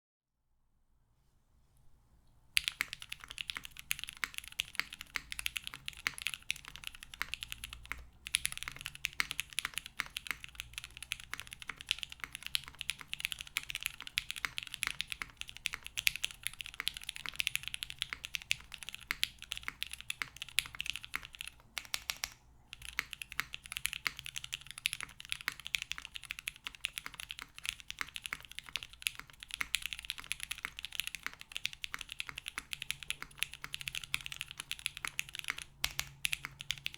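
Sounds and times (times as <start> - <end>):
fast mechanical keyboard typing: 2.6 - 36.9.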